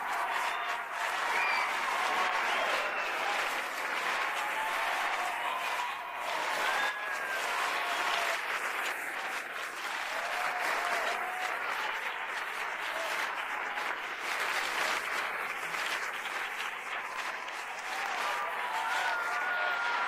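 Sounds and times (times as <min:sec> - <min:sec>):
audience applauding: 0:00.0 - 0:20.0
people cheering: 0:00.0 - 0:20.0.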